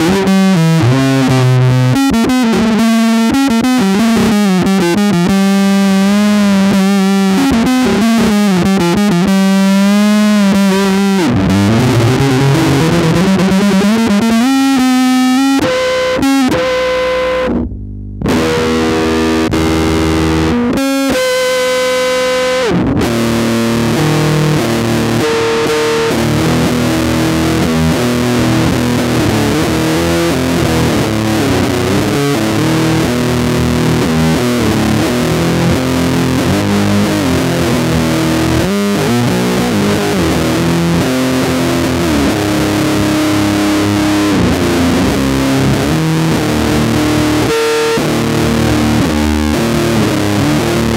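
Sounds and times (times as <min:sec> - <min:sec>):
distorted heavy metal music: 0:00.0 - 0:50.9
electric bass playing: 0:00.0 - 0:50.9.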